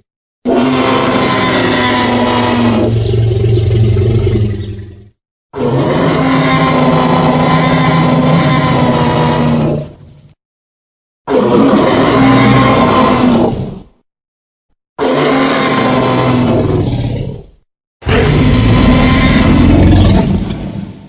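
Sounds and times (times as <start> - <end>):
dinosaur roar: 0.5 - 10.0, 11.3 - 14.0, 15.0 - 21.0.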